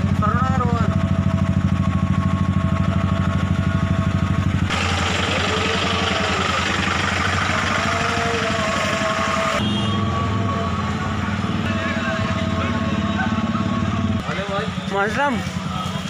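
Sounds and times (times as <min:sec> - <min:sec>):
engines idling in traffic: 0:00.0 - 0:16.0
motorcycle engine idling: 0:00.0 - 0:16.0.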